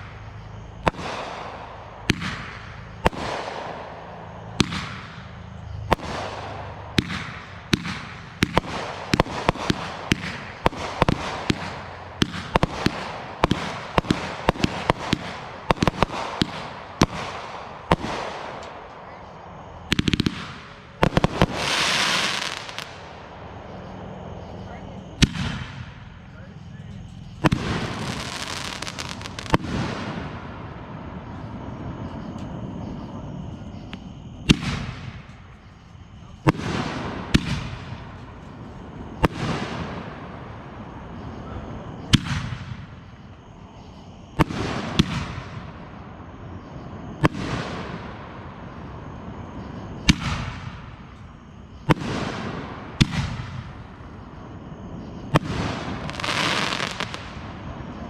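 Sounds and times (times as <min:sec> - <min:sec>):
fireworks hiss: 0:00.0 - 0:19.2, 0:19.8 - 0:24.0, 0:24.6 - 0:58.0
fireworks bangs: 0:00.0 - 0:58.0.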